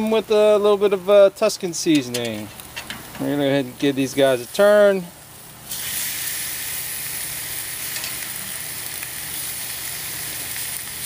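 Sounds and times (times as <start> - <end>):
chicken sizzling on grill: 0.0 - 11.0.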